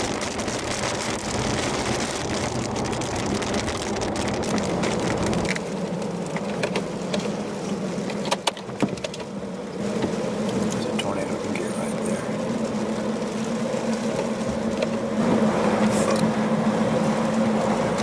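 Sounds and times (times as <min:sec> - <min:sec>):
rain beating on a car: 0:00.0 - 0:18.0
raindrops ticking on a car: 0:00.0 - 0:18.0
road and engine rumble: 0:00.0 - 0:18.0.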